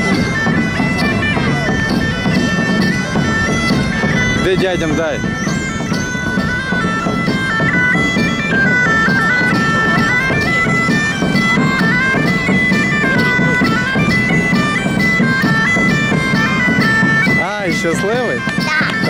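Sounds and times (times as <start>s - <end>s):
low accompaniment: 0.0s - 19.0s
wind instrument melody: 0.0s - 19.0s.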